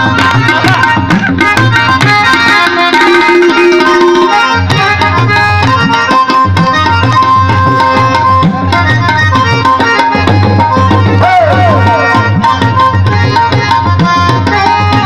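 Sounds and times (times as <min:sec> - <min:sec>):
harmonium chords: 0:00.0 - 0:15.0
tabla fast rhythm: 0:00.0 - 0:15.0.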